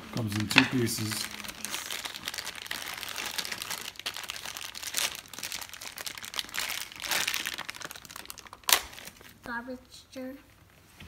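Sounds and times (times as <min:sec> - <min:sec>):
plastic packaging crinkling: 0:00.2 - 0:09.5.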